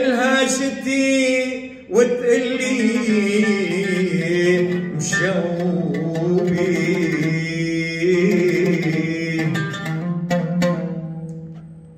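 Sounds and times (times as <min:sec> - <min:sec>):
man singing: 0:00.0 - 0:10.5
oud playing: 0:00.0 - 0:11.9.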